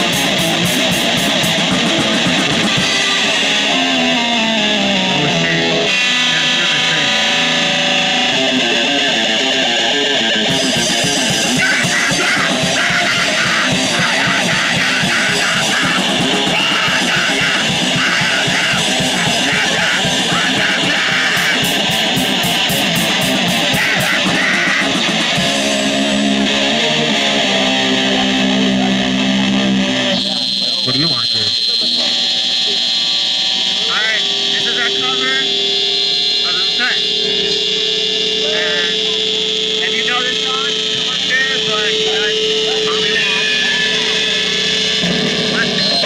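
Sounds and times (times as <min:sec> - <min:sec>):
punk band playing: 0:00.0 - 0:46.0.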